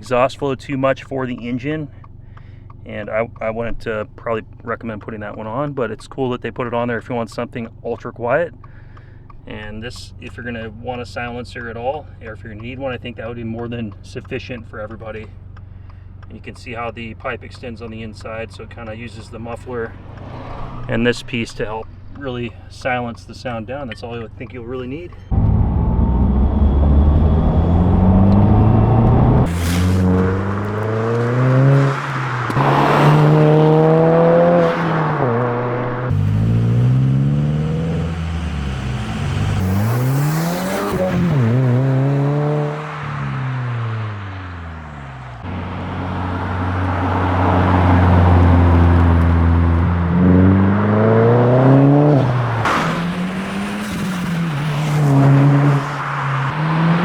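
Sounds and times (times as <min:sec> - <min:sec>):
car exhaust revving: 0:00.0 - 0:57.0.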